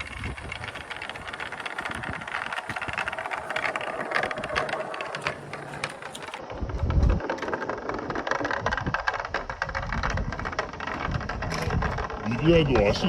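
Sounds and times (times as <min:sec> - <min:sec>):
marbles rolling on wood: 0:00.0 - 0:13.0
wind rumble on microphone: 0:00.0 - 0:13.0.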